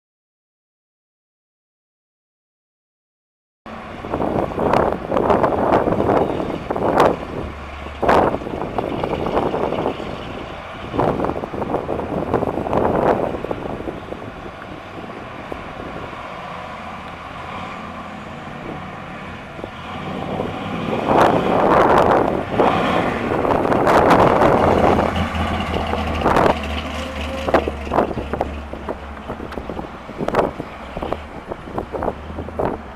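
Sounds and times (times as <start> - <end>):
car engine running while driving: 3.7 - 32.9
wind buffeting microphone: 3.7 - 32.9.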